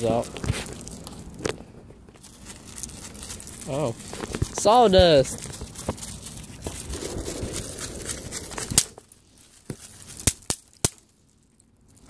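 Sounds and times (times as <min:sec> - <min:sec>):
paper wrappers crinkling: 0:00.0 - 0:12.0.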